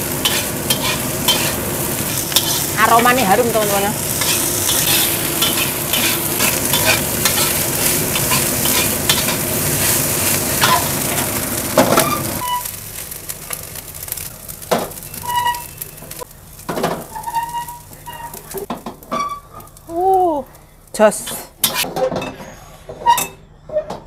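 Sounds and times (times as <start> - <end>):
spatula scraping a wok: 0.0 - 12.8, 15.0 - 19.8, 21.2 - 24.0
rice sizzling in a wok: 0.0 - 21.9.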